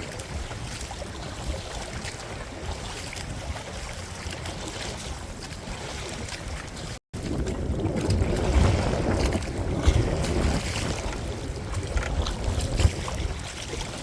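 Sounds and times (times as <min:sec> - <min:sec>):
water splashing around kayak: 0:00.0 - 0:14.0
wind buffeting microphone: 0:00.0 - 0:14.0.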